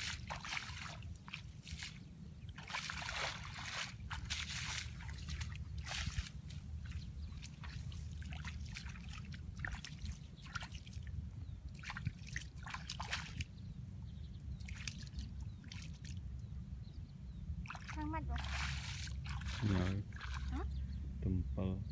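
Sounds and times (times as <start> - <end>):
water sloshing and splashing: 0.0 - 13.6, 14.5 - 16.5, 17.6 - 20.8
steady low rumble: 0.0 - 21.9.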